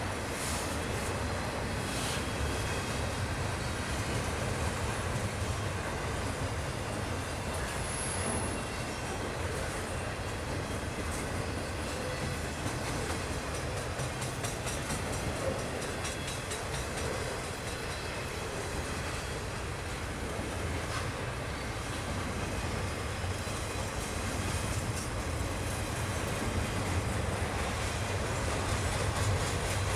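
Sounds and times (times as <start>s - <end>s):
steel wheels rumbling on rail: 0.0s - 29.9s.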